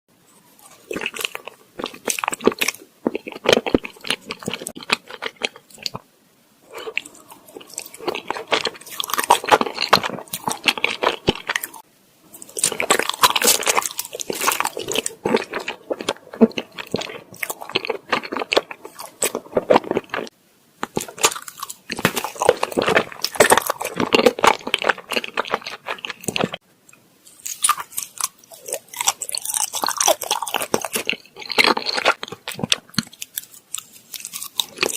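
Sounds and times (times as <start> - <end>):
biting and chewing rice cakes: 0.6 - 6.0, 6.7 - 11.8, 12.4 - 26.6, 27.3 - 34.9.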